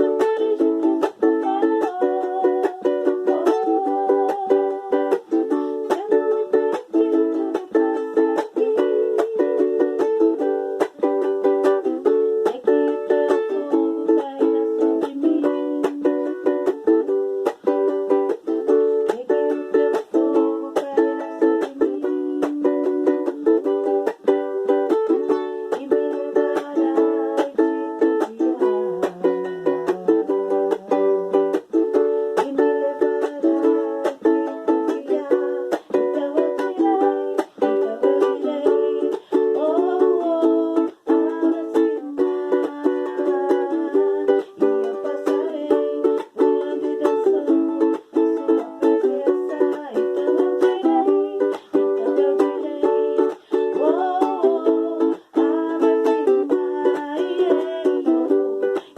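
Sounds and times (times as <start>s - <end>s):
ukulele strumming chords: 0.0s - 58.9s.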